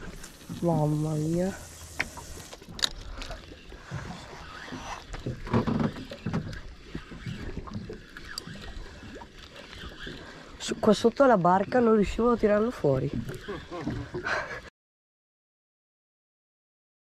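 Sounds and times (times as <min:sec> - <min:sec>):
water lapping against boat hull: 0:00.0 - 0:14.7.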